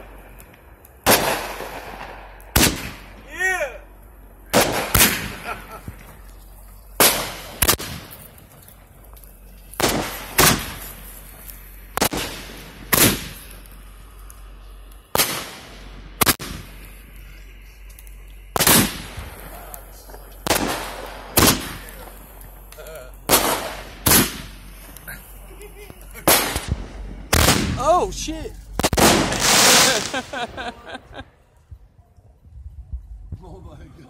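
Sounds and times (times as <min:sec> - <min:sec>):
fireworks bangs: 0:00.0 - 0:31.3.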